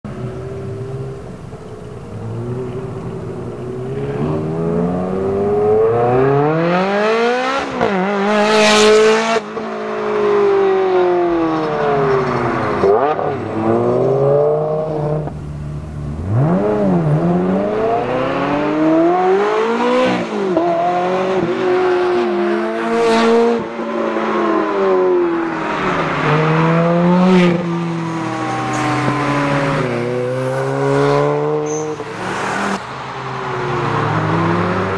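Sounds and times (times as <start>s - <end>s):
sports car engines accelerating: 0.1s - 34.9s.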